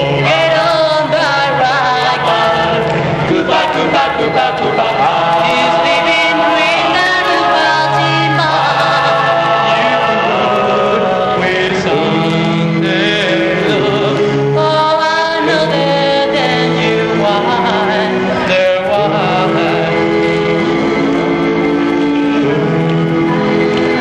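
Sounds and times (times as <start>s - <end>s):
lead voice singing with vibrato: 0.0s - 24.0s
voices singing in harmony: 0.0s - 24.0s.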